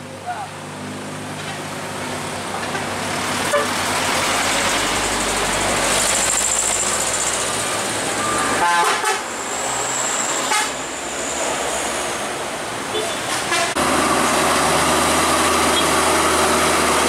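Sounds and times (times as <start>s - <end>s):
truck engine passing: 0.8s - 17.0s.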